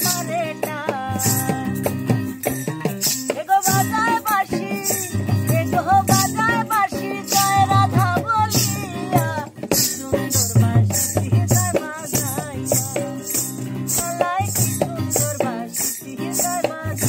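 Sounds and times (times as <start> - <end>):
woman singing with vibrato: 0.0 - 2.0, 3.3 - 17.0
acoustic guitar: 0.0 - 17.0
shaker beat: 0.0 - 17.0.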